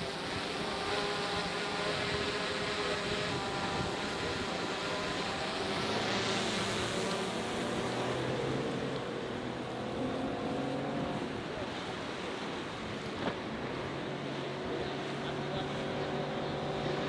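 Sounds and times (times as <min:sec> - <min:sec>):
outboard motor running: 0:00.0 - 0:17.0
water rushing: 0:00.0 - 0:17.0.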